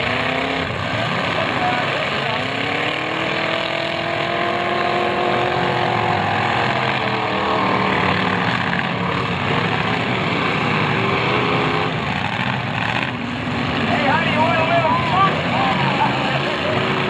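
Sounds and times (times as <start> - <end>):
car engines running hard: 0.0 - 17.0
engine revving at high revs: 0.0 - 17.0.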